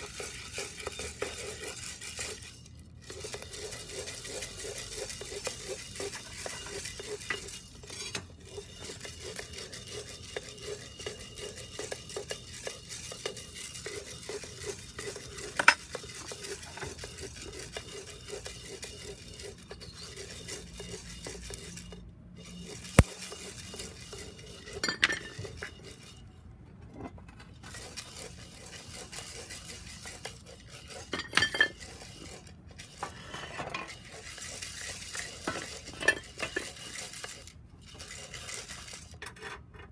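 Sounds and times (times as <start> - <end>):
coffee beans scraping in iron pot: 0.0 - 39.9.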